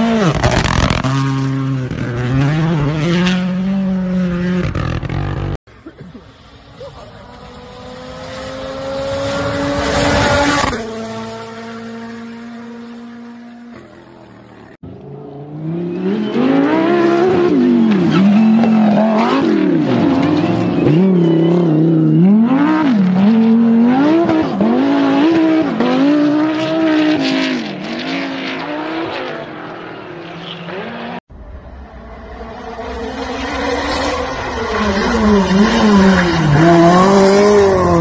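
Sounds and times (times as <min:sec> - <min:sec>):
rally car engine revving: 0:00.0 - 0:05.6, 0:06.7 - 0:31.2, 0:31.8 - 0:38.0.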